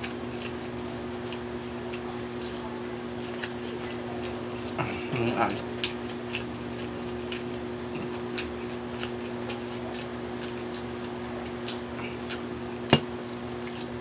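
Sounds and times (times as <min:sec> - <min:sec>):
person chewing: 0:00.0 - 0:14.0
steady low hum: 0:00.0 - 0:14.0.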